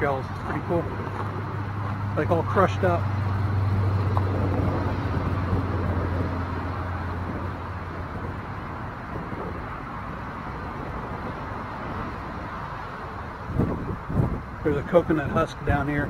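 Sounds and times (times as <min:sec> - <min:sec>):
outdoor rush: 0:00.0 - 0:16.0
vehicle engine hum: 0:00.0 - 0:16.0.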